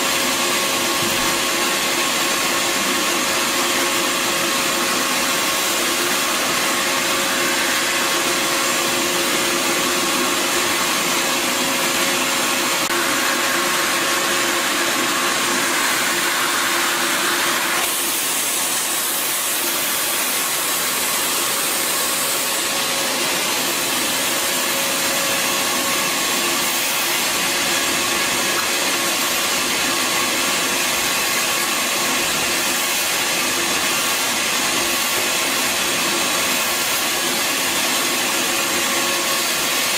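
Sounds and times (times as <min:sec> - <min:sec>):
wet dry vacuum running: 0:00.0 - 0:39.9.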